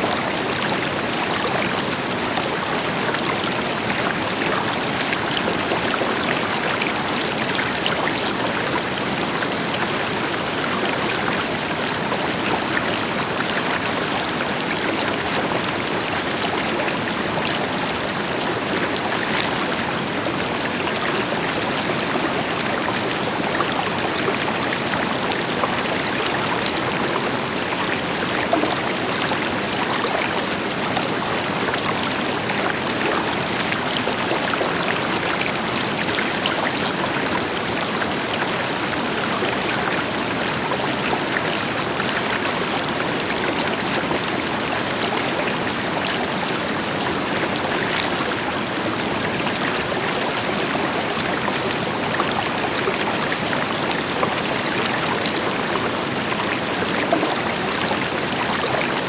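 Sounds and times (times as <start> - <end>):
river flowing over rocks: 0.1 - 59.0.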